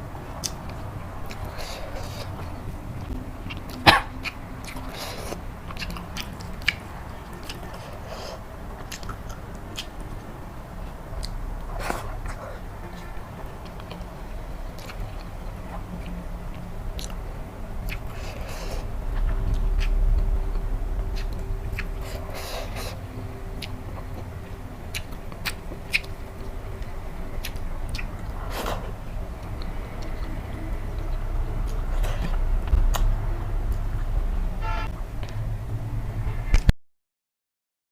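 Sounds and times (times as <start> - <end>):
person chewing with mouth clicks: 0.4 - 17.2, 17.8 - 34.2.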